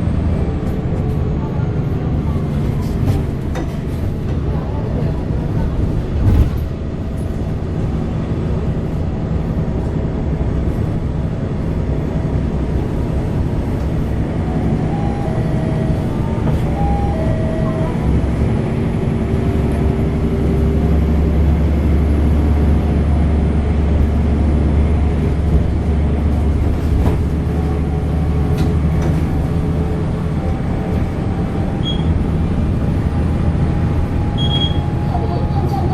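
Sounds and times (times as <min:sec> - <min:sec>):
bus diesel engine drone: 0:00.0 - 0:35.9.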